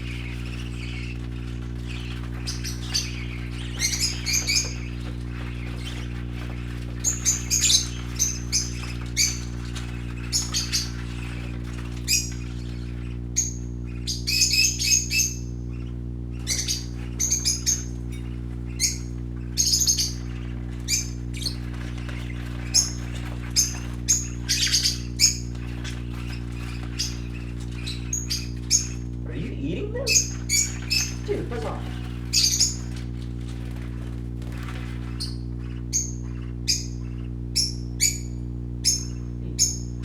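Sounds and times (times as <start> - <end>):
parakeets chirping: 0.0 - 40.0
steady low hum: 0.0 - 40.0.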